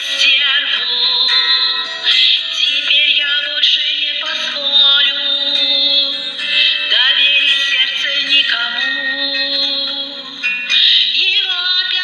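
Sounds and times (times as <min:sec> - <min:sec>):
instrumental accompaniment: 0:00.0 - 0:12.0
person singing: 0:00.0 - 0:12.0.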